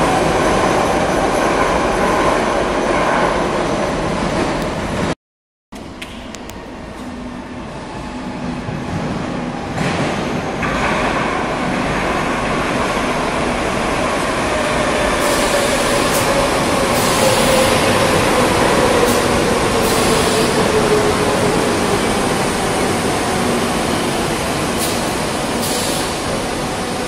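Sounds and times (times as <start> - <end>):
metro train running noise: 0.0 - 5.2, 5.8 - 27.0.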